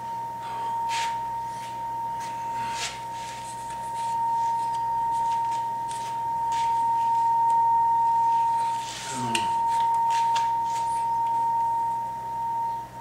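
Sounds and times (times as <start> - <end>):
high-pitched steady tone: 0.0 - 13.0.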